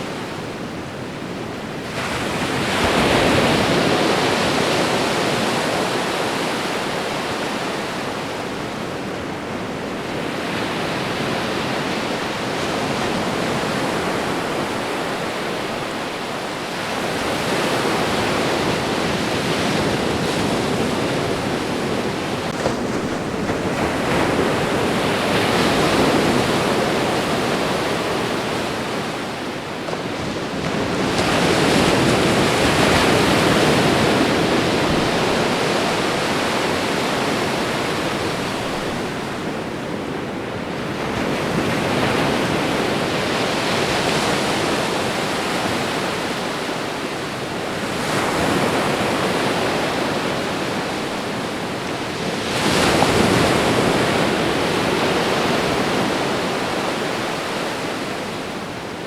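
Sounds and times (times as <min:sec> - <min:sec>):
ocean surf washing ashore: 0:00.0 - 0:59.0.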